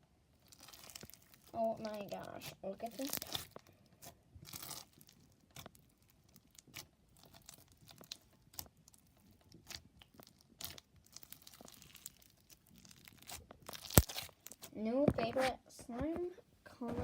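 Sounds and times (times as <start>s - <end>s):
slime squished by hand: 0.4s - 15.5s.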